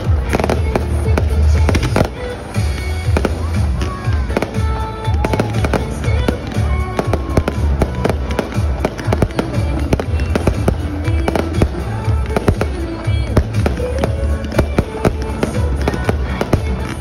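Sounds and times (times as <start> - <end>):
fireworks bangs and crackles: 0.0 - 17.0
loud music with heavy bass: 0.0 - 17.0.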